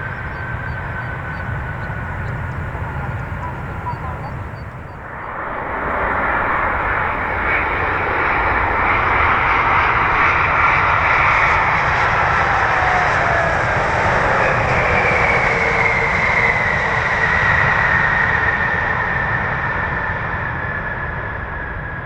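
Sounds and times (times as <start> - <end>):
jet engine whine falling: 0.0 - 18.6
airliner engines roaring: 0.0 - 22.0.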